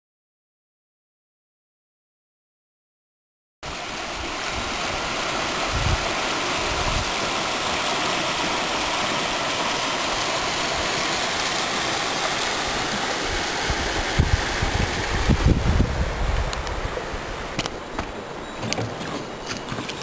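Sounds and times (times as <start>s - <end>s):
stream rushing over rocks: 3.6s - 20.0s.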